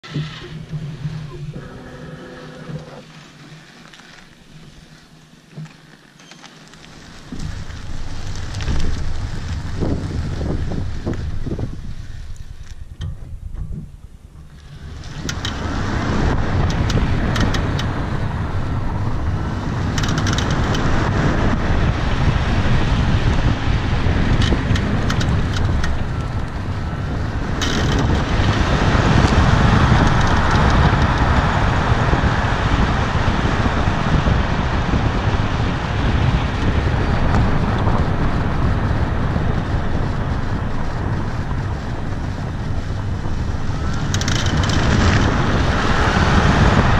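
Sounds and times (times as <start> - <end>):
car road and wind noise: 0.0 - 46.9.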